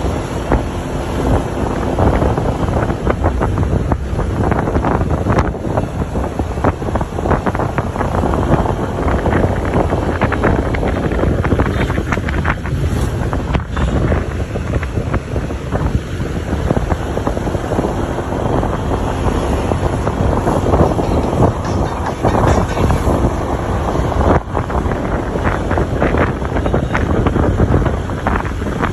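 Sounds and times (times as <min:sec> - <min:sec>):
vehicle running noise: 0:00.0 - 0:28.9
wind buffeting microphone: 0:00.0 - 0:28.9.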